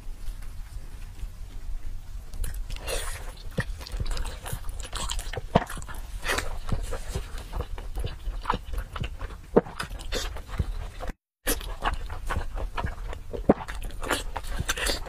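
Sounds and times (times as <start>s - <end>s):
chewing meat with mouth clicks: 2.3s - 15.0s.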